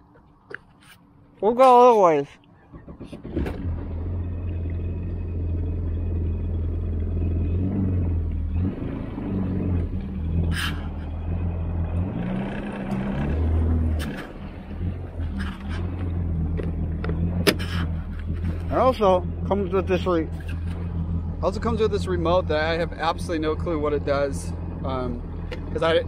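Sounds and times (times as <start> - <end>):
personal watercraft engine: 0.8 - 26.0.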